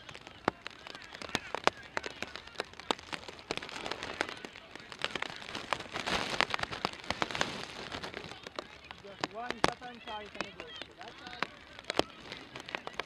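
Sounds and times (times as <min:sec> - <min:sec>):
raindrops ticking: 0:00.0 - 0:13.0
steady hiss of rain: 0:00.0 - 0:13.0.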